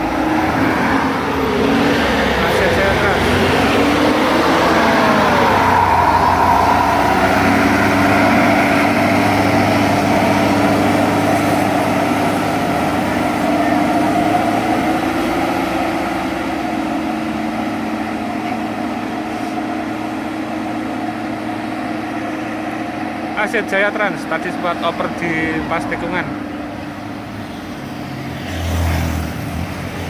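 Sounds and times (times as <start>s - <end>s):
bus diesel engine pulling uphill: 0.0s - 30.0s.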